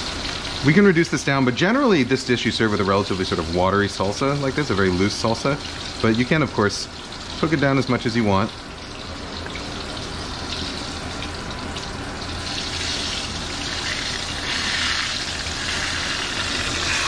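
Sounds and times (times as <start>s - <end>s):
food sizzling in hot oil: 0.0s - 1.0s, 2.9s - 17.0s
low steady hum: 0.0s - 17.0s.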